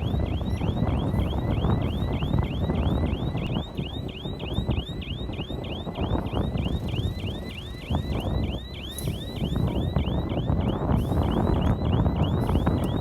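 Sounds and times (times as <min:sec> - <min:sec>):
bulldozer diesel engine rumbling: 0:00.0 - 0:13.0.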